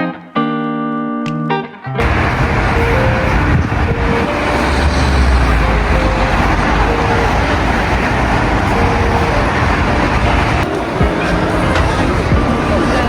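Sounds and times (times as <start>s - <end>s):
dense road roar: 2.0s - 13.0s
low engine rumble: 2.0s - 13.0s.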